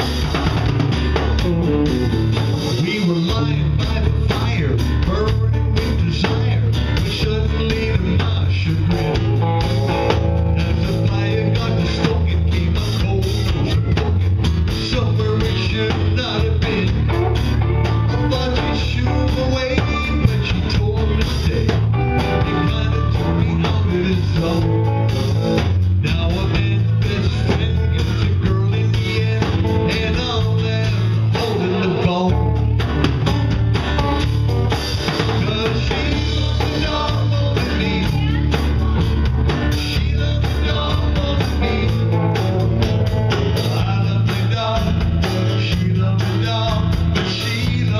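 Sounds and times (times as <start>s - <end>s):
electric bass: 0.0s - 47.9s
electric guitar: 0.0s - 47.9s
strummed acoustic guitar: 0.0s - 47.9s.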